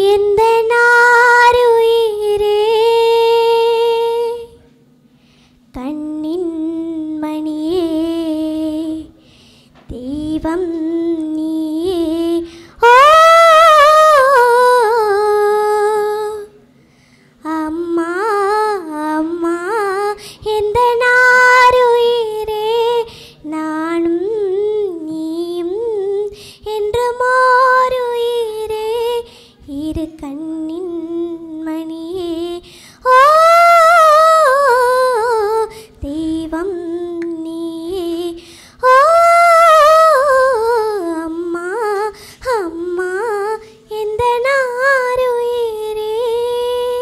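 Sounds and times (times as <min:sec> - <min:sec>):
girl singing unaccompanied: 0:00.0 - 0:04.7, 0:05.7 - 0:09.2, 0:09.8 - 0:16.6, 0:17.4 - 0:47.0.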